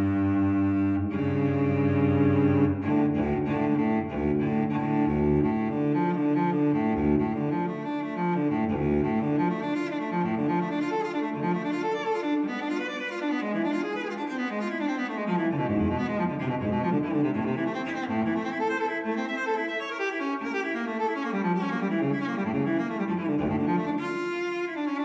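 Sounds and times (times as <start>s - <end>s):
slow low bowed strings music: 0.0s - 25.0s.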